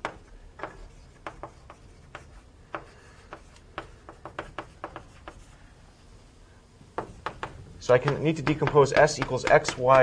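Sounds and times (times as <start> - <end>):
writing taps on a board: 0.0 - 5.5, 7.0 - 10.0.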